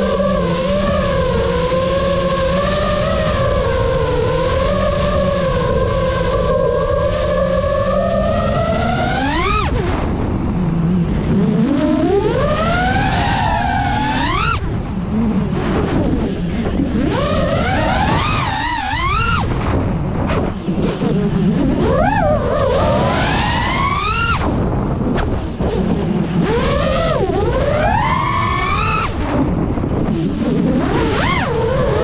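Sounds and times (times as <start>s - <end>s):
quadcopter motors whining: 0.0s - 32.0s
rush of wind and prop wash: 0.0s - 32.0s.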